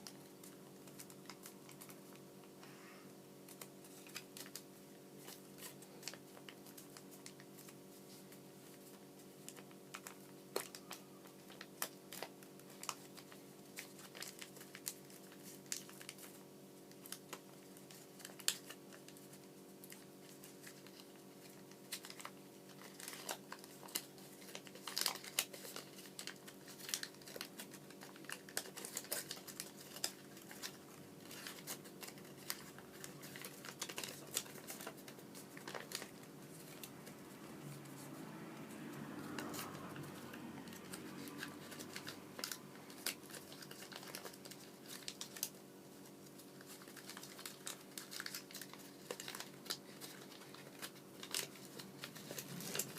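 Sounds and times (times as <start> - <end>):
paper rustling and crinkling: 0.0 - 2.3, 3.4 - 52.9.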